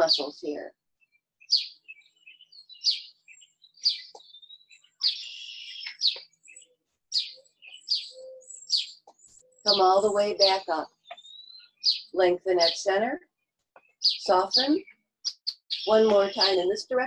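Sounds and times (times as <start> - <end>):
songbirds chirping: 0.0 - 17.0
buzzy bird trill: 1.0 - 13.1, 13.8 - 17.0.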